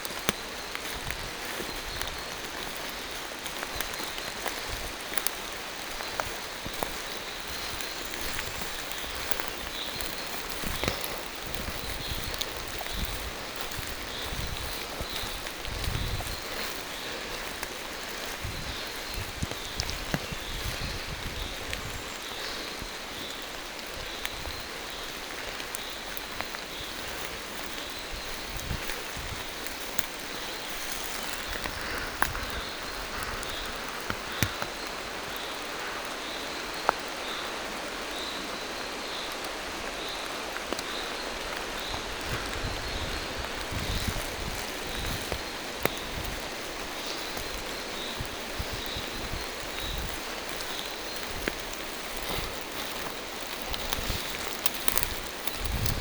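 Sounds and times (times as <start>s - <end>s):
raindrops tapping close by: 0.0s - 56.0s
steady rain on foliage: 0.0s - 56.0s.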